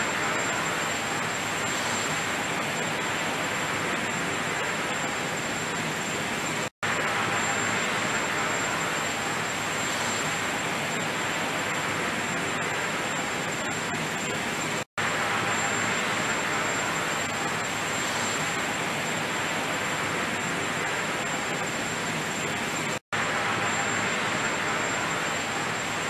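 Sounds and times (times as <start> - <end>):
faint high whine: 0.0 - 26.0
steady rushing noise: 0.0 - 26.0.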